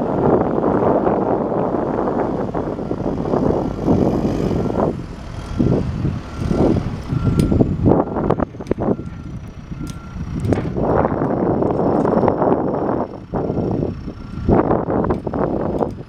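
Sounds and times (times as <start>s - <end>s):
reversing alarm beeping: 0.0s - 15.7s
backhoe diesel engine surging: 0.0s - 16.0s.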